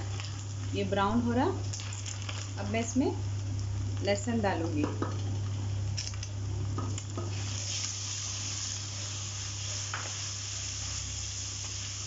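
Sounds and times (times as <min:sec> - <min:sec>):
meat and garlic sizzling in oil: 0:00.0 - 0:12.0.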